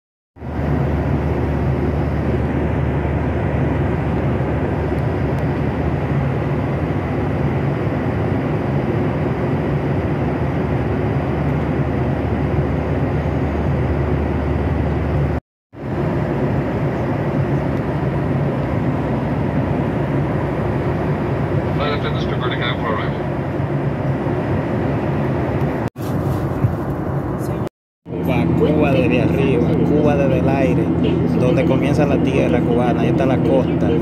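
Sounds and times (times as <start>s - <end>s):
jet engine and airflow drone: 0.4s - 34.0s.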